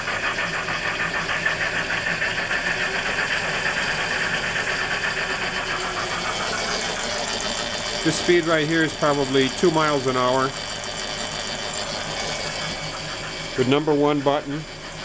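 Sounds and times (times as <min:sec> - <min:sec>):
electric motor running: 0:00.0 - 0:15.0
simulated steam locomotive chuffing: 0:00.0 - 0:15.0.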